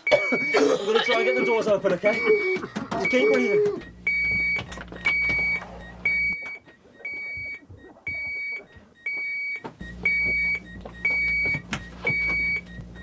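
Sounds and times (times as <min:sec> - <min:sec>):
electronic alarm beeping: 0:00.0 - 0:13.0.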